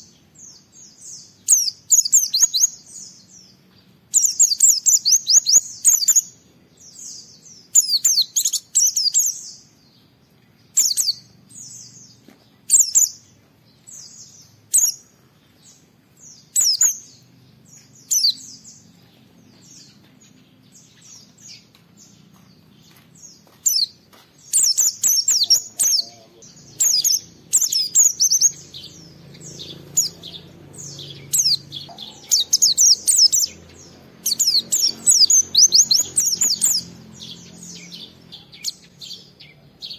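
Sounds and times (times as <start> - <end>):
bird twittering chirps: 0.0 - 39.9.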